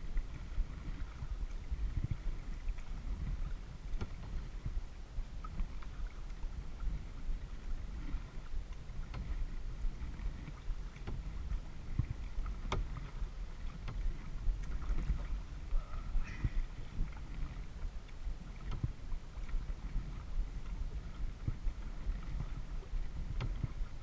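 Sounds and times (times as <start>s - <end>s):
paddle splashing water: 0.0s - 24.0s
wind on microphone: 0.0s - 24.0s.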